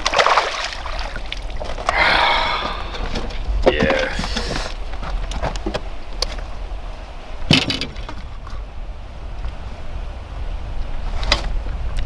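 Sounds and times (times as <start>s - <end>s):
wind buffeting microphone: 0.8s - 12.0s.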